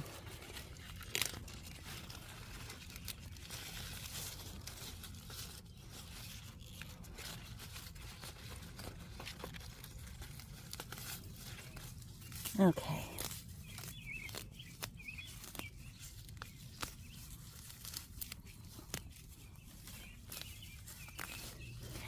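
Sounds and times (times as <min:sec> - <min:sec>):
leaves rustling: 0:00.0 - 0:22.0
stems and roots tearing: 0:00.0 - 0:22.0.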